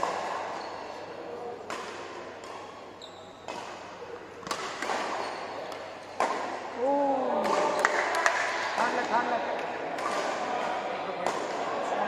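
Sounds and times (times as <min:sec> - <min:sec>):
rackets hitting shuttlecock: 0:00.0 - 0:00.6, 0:01.6 - 0:06.8, 0:07.4 - 0:11.8.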